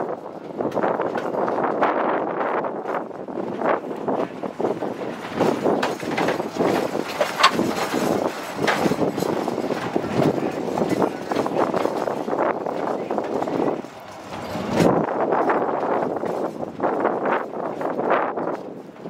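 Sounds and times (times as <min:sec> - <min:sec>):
railroad car clanking on track: 0:00.0 - 0:19.0.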